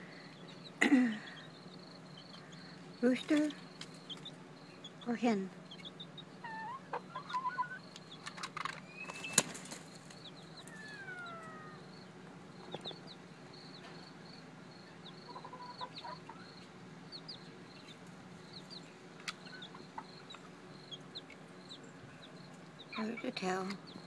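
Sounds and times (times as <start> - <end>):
chickens clucking: 0.0 - 12.0, 12.6 - 24.0.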